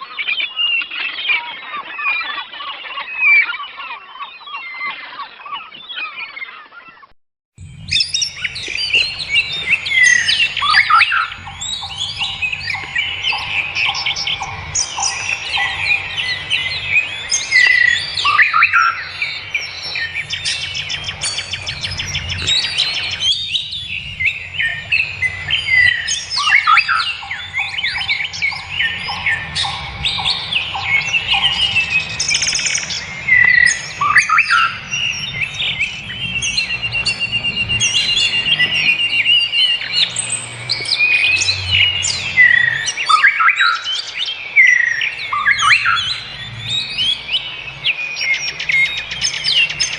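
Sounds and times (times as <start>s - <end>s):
forest birds calling and singing: 0.0s - 49.9s.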